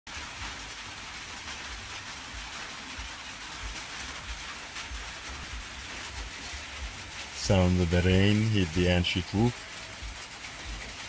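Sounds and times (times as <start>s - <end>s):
rain falling on a roof: 0.1s - 11.0s.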